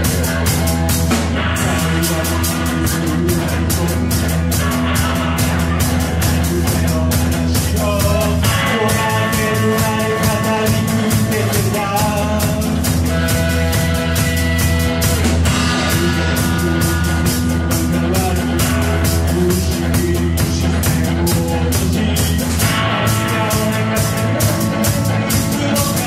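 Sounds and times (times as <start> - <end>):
lead guitar with bending notes: 0.0 - 26.0
live rock band playing: 0.0 - 26.0.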